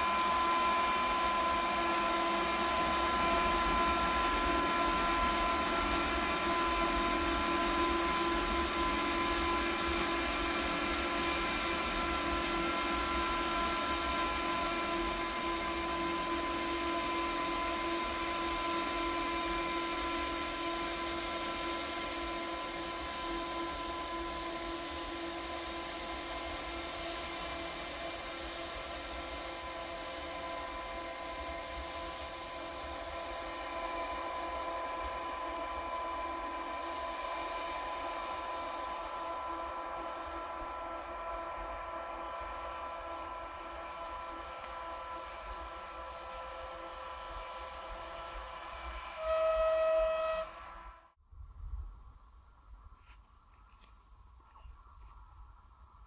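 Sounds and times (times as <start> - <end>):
hiss: 0.0 - 50.9
electric locomotive whine: 0.0 - 51.2.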